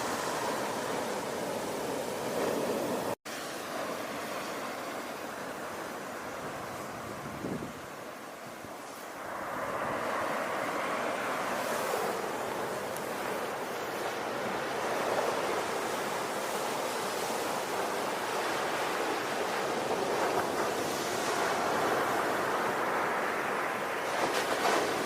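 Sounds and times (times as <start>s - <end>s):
ocean waves on shore: 0.0s - 25.0s.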